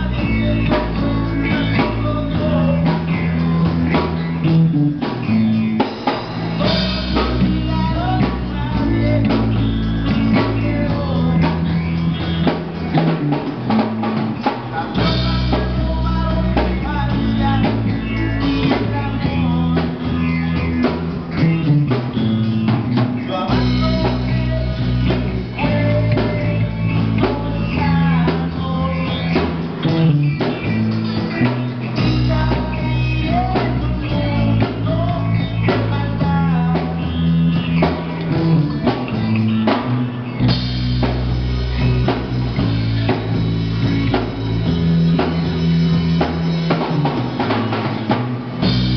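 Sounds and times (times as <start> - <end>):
person singing: 0.0 - 13.4, 14.4 - 22.2, 22.9 - 41.2
drum kit: 0.0 - 48.9
electric guitar: 0.0 - 48.9
heavy bass notes: 0.0 - 48.9.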